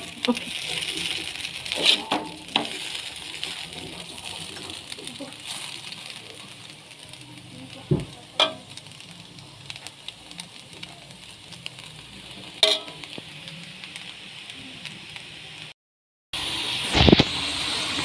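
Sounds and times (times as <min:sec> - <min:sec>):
steady hiss: 0:00.0 - 0:15.7.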